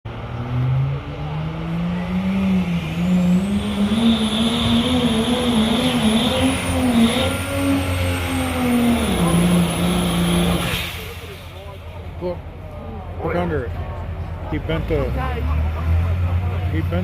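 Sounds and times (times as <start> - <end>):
diesel truck engine under load: 0.1 - 17.0.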